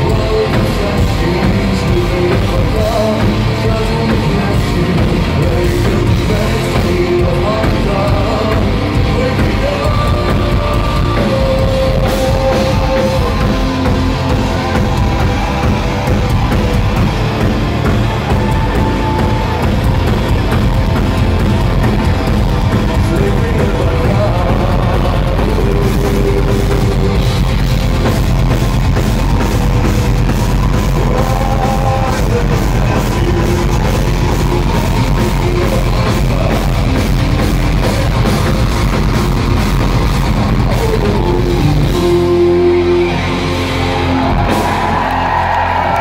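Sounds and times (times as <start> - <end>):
person singing: 0.0 - 29.0, 29.6 - 45.1
distorted guitars: 0.0 - 46.0
drum kit: 0.0 - 46.0
live rock band: 0.0 - 46.0.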